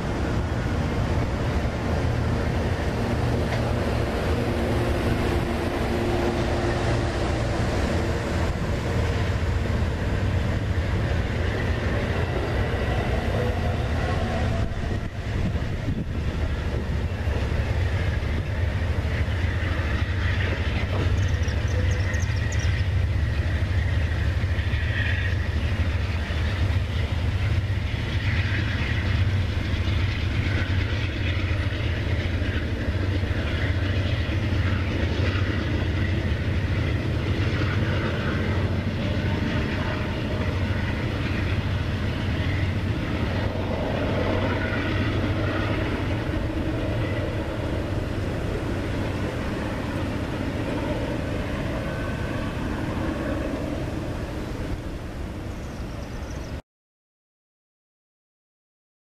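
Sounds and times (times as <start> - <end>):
train wheels clattering on rails: 0.0 - 52.7
low train rumble: 0.0 - 56.6.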